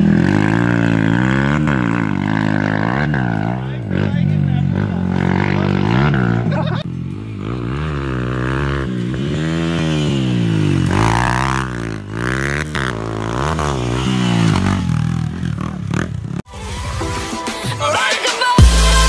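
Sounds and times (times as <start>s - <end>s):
motorcycle engine revving: 0.0s - 16.5s.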